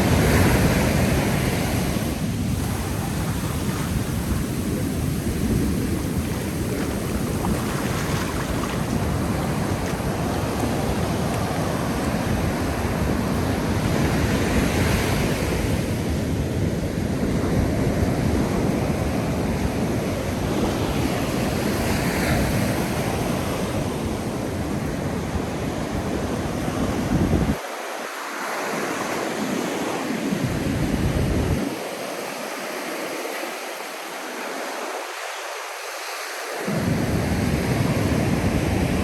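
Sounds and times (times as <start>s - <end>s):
wind rumbling on microphone: 0.0s - 27.6s, 30.2s - 31.8s, 36.7s - 39.0s
ocean surf breaking on beach: 0.0s - 39.0s.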